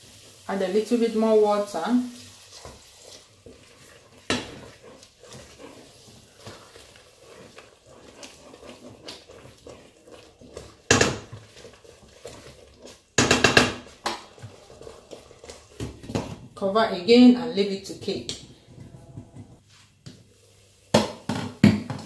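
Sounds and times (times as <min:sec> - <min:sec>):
spatula scraping and knocking pot: 0:00.7 - 0:19.6.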